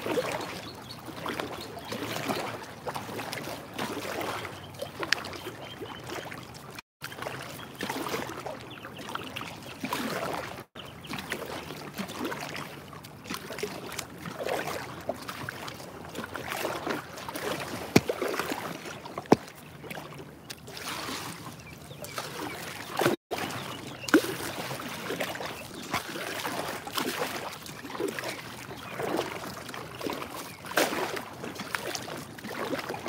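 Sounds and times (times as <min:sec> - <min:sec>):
water splashing around paddled boat: 0:00.0 - 0:33.0.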